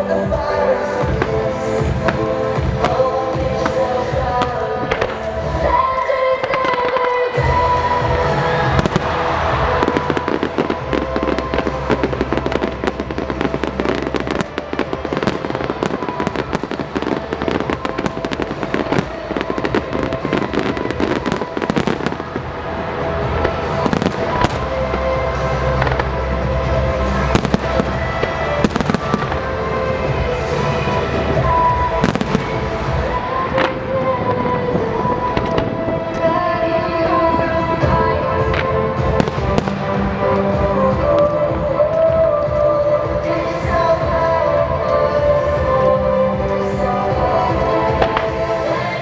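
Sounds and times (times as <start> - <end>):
fireworks cracking and popping: 0.0 - 36.5, 37.3 - 49.0
loud music with low bass: 0.0 - 49.0.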